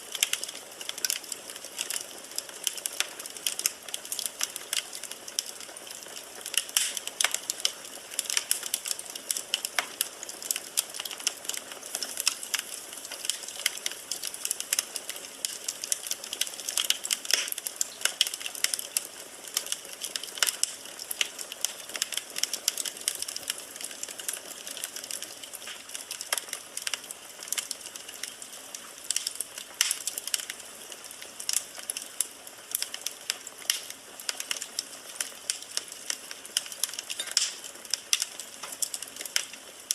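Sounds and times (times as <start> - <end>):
firewood crackling and popping: 0.0 - 39.9
soft fire hiss: 0.0 - 39.9.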